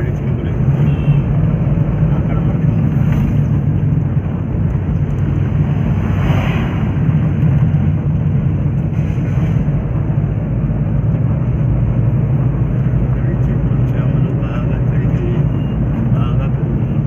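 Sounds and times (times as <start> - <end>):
engine and road noise in cabin: 0.0 - 17.0.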